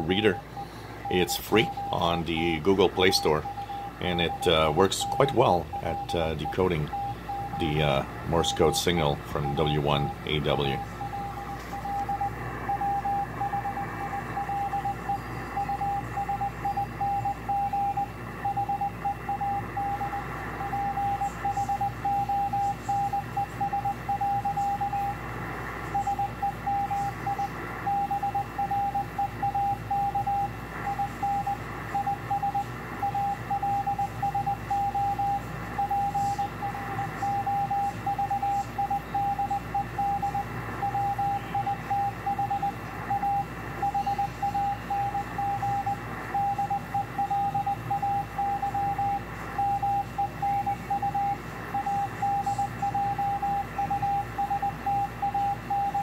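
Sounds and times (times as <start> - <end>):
morse code beeps: 0.0 - 25.2, 25.9 - 56.0
radio hiss: 0.0 - 56.0.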